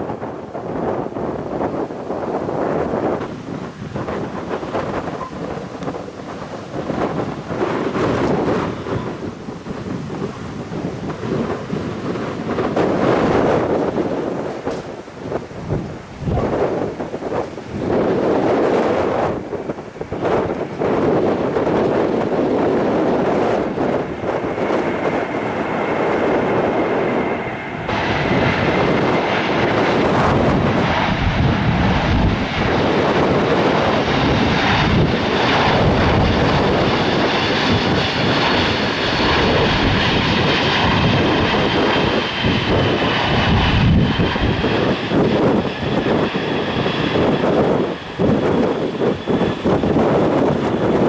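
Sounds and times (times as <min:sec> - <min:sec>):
jet engines running: 0:00.0 - 0:51.0
wind buffeting microphone: 0:00.0 - 0:51.0.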